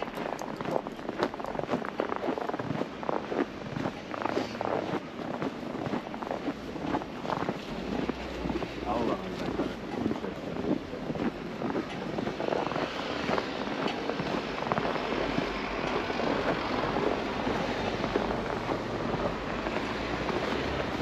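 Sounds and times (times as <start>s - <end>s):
footsteps crunching in snow: 0.0s - 21.0s.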